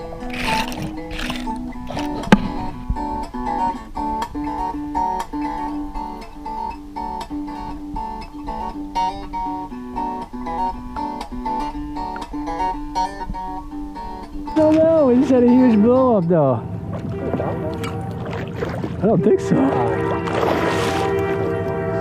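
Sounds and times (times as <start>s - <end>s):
plucked acoustic guitar melody: 0.0s - 22.0s.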